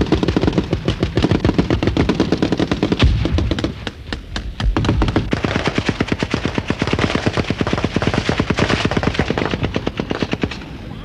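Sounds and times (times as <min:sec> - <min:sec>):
automatic weapon fire: 0:00.0 - 0:10.6.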